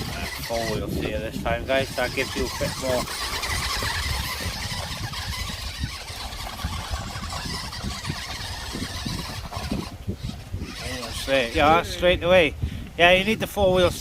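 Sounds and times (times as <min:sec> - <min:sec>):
rc car motor whining: 0:00.0 - 0:12.1
wind on microphone: 0:00.0 - 0:14.0.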